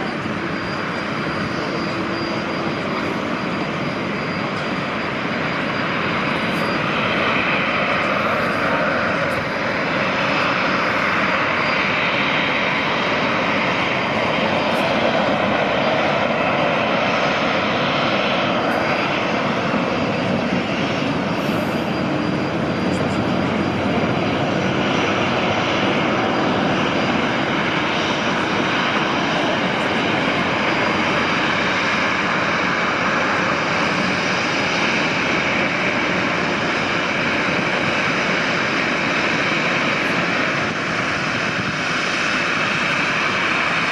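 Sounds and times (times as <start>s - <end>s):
jet engines taxiing: 0.0s - 43.9s.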